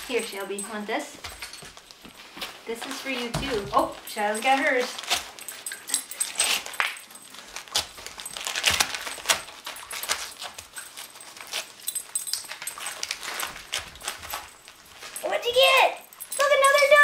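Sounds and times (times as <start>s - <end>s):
wrapping paper crinkling and tearing: 1.7s - 17.0s.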